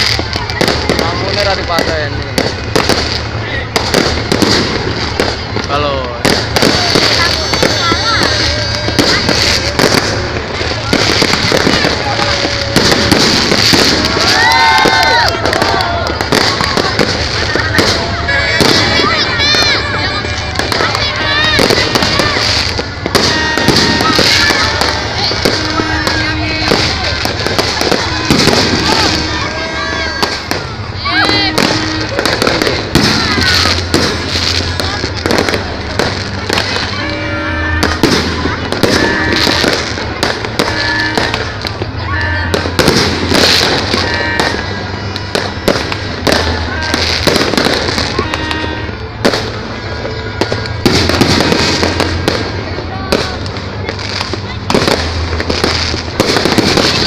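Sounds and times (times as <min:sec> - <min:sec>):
fireworks bangs and crackling: 0:00.0 - 0:57.0
voices: 0:00.0 - 0:57.0.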